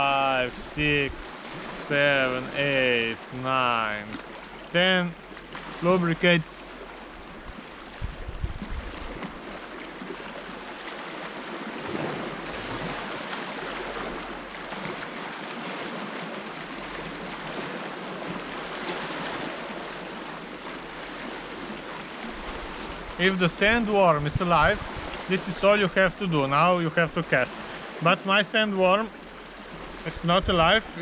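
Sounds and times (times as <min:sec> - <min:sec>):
surf washing against rocks: 0:00.0 - 0:31.0.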